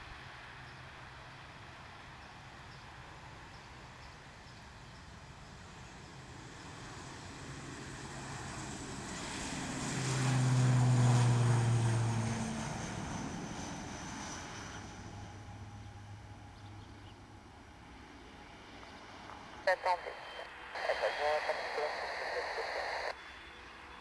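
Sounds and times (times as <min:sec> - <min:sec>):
turboprop airliner propeller drone: 0:00.0 - 0:24.0.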